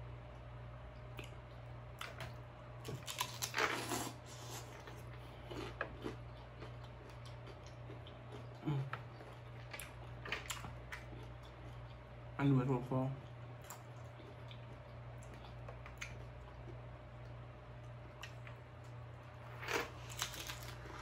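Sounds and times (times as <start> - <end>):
crunchy tostada bitten and chewed: 0.9 - 12.3, 13.2 - 21.0.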